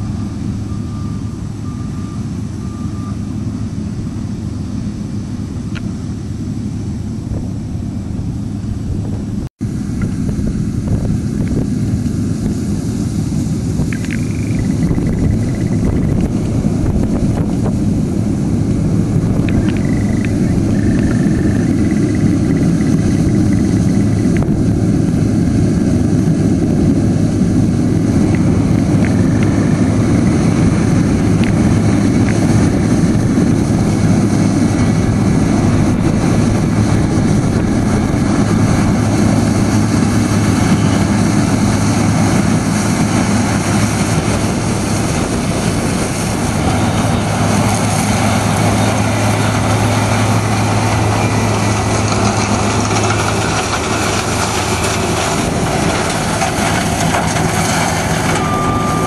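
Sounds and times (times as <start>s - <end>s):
diesel farm machinery running: 0.0s - 59.0s.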